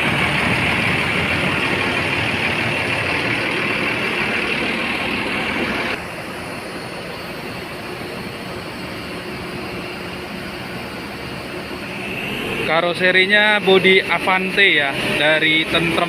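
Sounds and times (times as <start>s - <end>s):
diesel bus engine idling: 0.0s - 16.0s.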